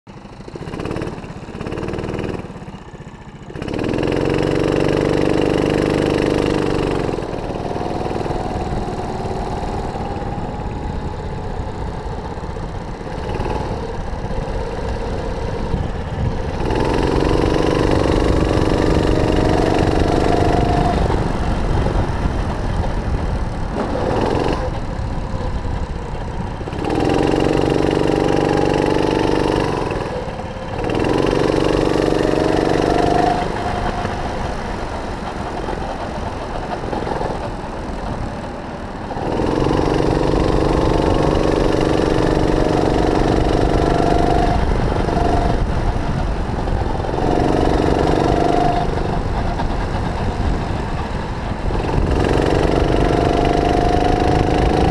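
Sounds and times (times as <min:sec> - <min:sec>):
kart engine revving: 0:00.1 - 0:54.9.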